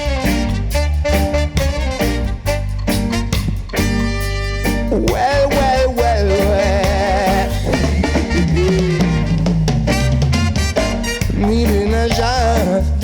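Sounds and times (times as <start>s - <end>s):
reggae band playing live: 0.0s - 13.0s.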